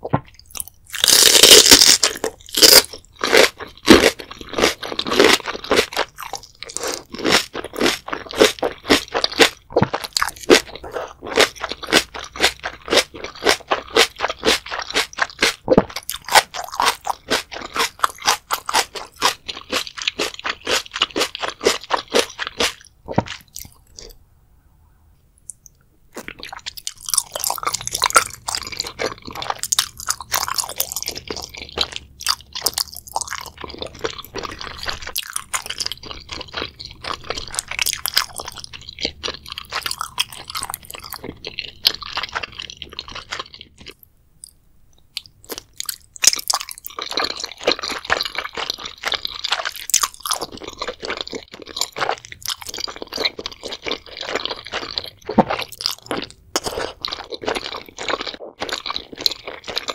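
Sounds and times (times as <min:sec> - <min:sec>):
crunching and chewing vegetables: 0:00.0 - 0:24.2, 0:25.4 - 0:59.9
wet chewing of noodles: 0:00.0 - 0:24.2, 0:25.4 - 0:59.9.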